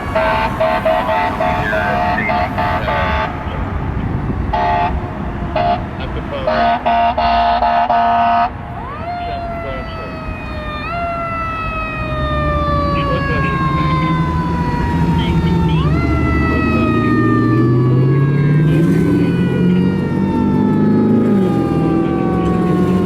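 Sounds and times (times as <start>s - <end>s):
mechanical siren wailing: 0.0s - 3.7s, 5.6s - 23.0s
diesel engine running: 0.0s - 23.0s.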